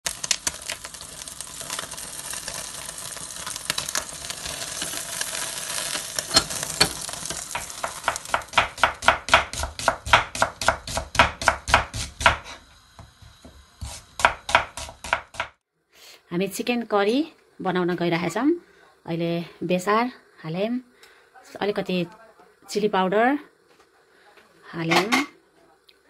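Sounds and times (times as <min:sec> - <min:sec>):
gas burner flame hissing: 0:00.0 - 0:26.0.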